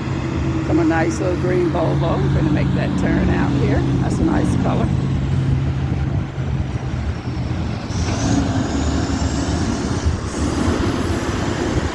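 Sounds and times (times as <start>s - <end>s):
road noise rumble and hiss: 0.0s - 11.9s
vehicle engine hum: 0.0s - 11.9s.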